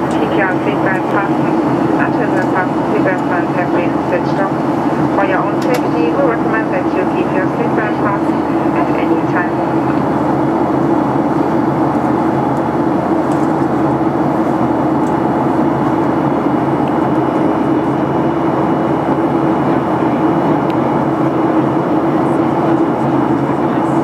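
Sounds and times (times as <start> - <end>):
rushing airflow: 0.0 - 23.4
jet engines droning: 0.0 - 24.0.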